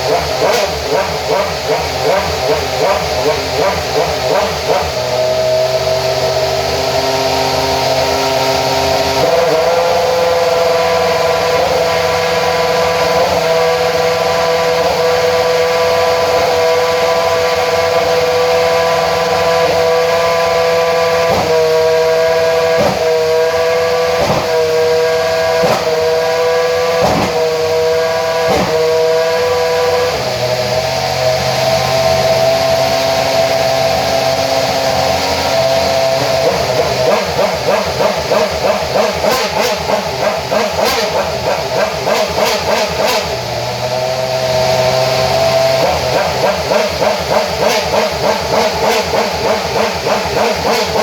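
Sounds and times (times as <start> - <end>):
racing car engine fast idle: 0.0 - 51.0.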